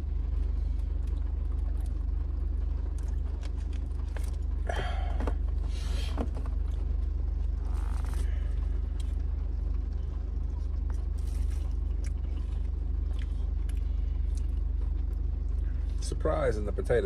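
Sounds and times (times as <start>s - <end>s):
car idling hum: 0.0s - 17.0s.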